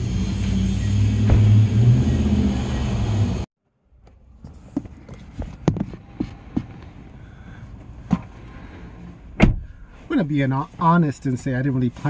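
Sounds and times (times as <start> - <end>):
car engine humming: 0.0 - 10.6.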